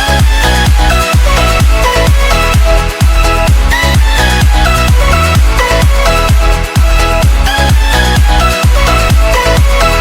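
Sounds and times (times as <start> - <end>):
four-on-the-floor kick drum: 0.0 - 9.8
synth chords: 0.0 - 10.0.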